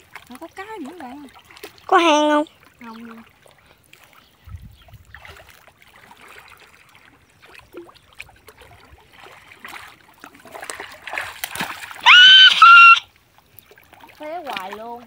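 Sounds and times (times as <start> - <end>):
muddy water sloshing and splashing: 0.0 - 15.0.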